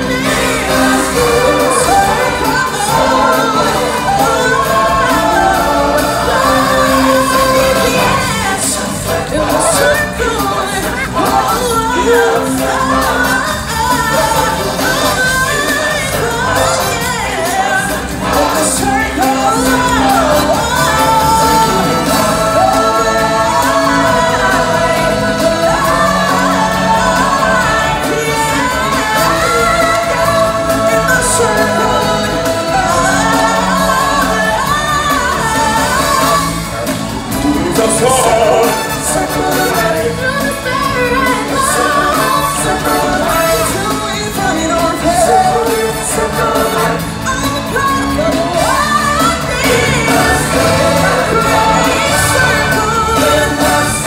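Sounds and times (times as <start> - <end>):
singers performing over music: 0.0 - 54.0.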